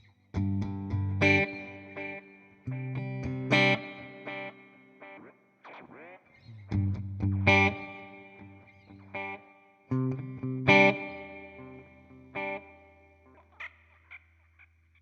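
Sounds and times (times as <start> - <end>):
electric guitar chords ringing out: 0.4 - 14.1.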